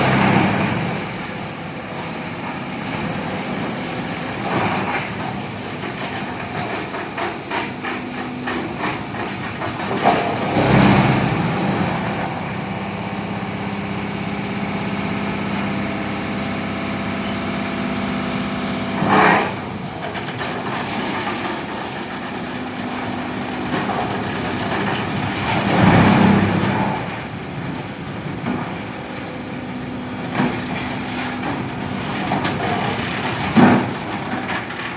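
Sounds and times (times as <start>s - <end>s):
loud noisy grinding surges: 0.0s - 28.8s
tub grinder machine drone: 0.0s - 34.9s.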